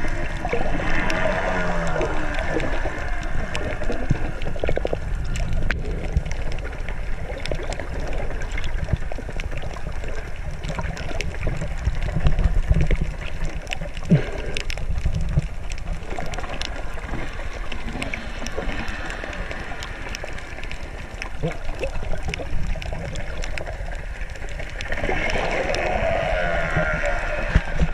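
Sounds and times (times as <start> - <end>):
muffled underwater rumble: 0.0 - 27.9
small clicks and crackles: 0.0 - 27.9.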